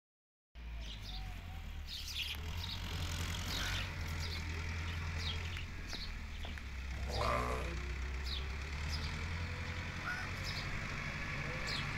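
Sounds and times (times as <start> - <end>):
distant tractor engine hum: 0.6 - 11.9
birds chirping: 0.7 - 11.9.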